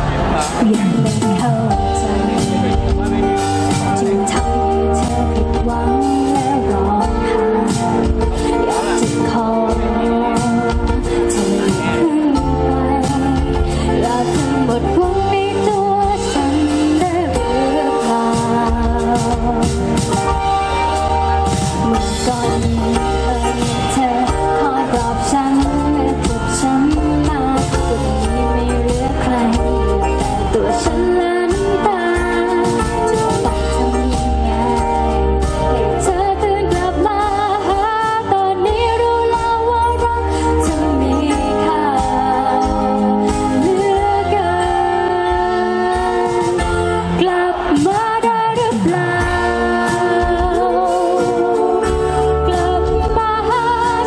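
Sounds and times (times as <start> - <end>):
drums keeping a steady beat: 0.0 - 54.0
live pop band: 0.0 - 54.0
woman singing into a microphone: 0.0 - 54.0.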